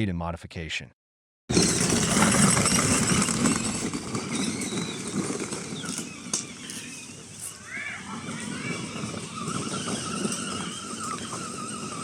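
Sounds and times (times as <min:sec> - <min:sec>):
electric ride-on toy motors: 0:01.5 - 0:12.0
plastic wheels rattling: 0:01.5 - 0:12.0.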